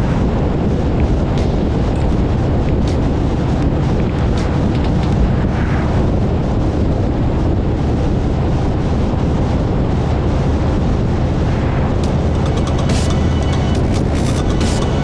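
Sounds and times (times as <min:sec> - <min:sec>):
low vehicle rumble: 0:00.0 - 0:15.0
wind blasting microphone: 0:00.0 - 0:15.0.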